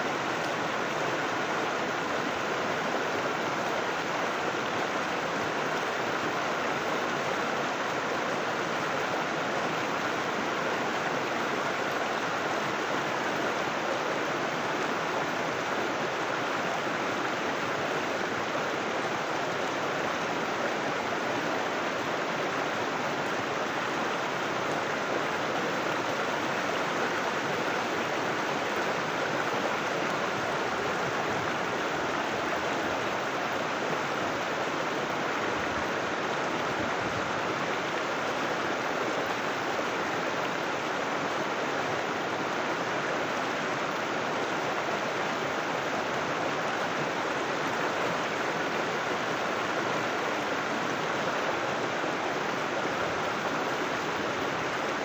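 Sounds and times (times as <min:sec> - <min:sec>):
river water flowing and splashing: 0:00.0 - 0:55.0.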